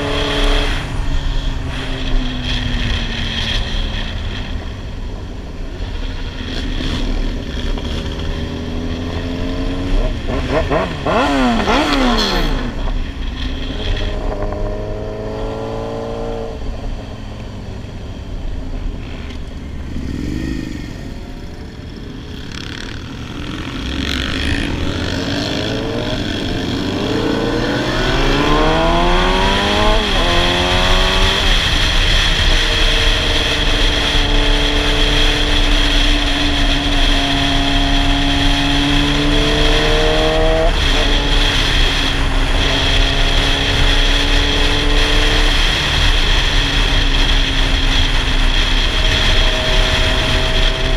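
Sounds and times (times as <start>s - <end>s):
motorcycle engine accelerating: 0.0s - 50.9s
wind rushing over microphone: 0.0s - 50.9s.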